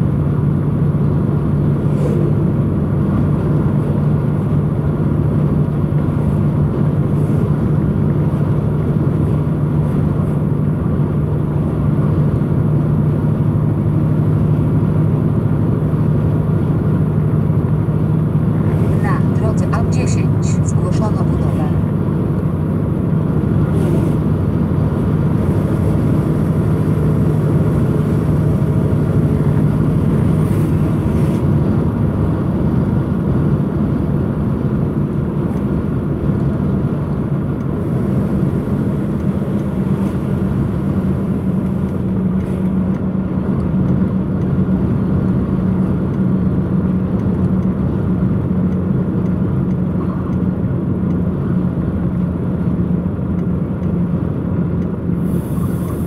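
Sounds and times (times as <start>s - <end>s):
engine drone: 0.0s - 56.0s
road noise: 0.0s - 56.0s.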